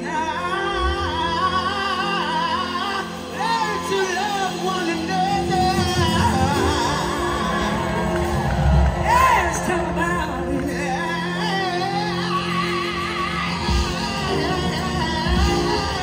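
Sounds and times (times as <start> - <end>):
live rock band playing: 0.0 - 16.0
sliding lead melody: 0.0 - 16.0.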